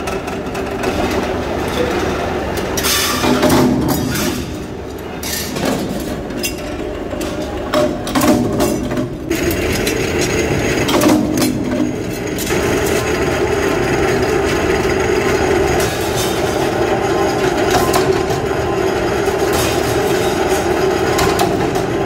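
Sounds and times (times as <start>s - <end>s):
power press machine drone: 0.0s - 22.0s.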